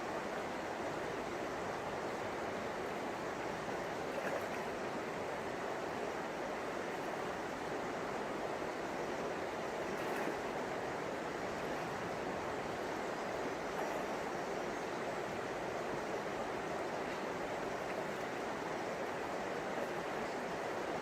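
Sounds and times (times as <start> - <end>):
river rushing over shallows: 0.0 - 21.0.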